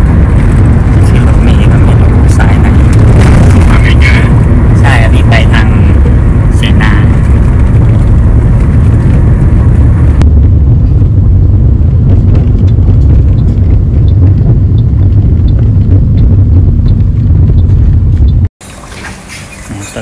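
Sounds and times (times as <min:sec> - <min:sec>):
car cabin low rumble: 0:00.0 - 0:18.5.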